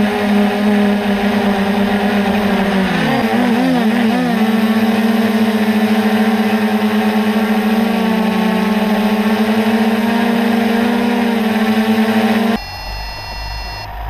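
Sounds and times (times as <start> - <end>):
drone motors humming: 0.0 - 14.0.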